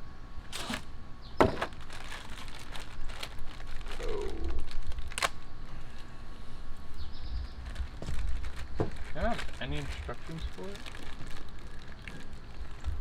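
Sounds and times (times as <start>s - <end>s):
packaging crinkling: 0.5s - 6.1s, 7.5s - 13.0s.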